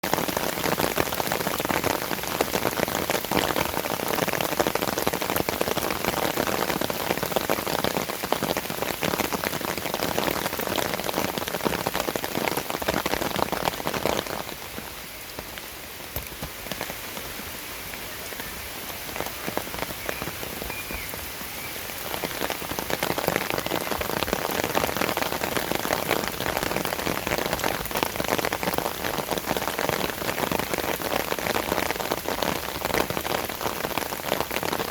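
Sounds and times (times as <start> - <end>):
rain patter: 0.0 - 34.9.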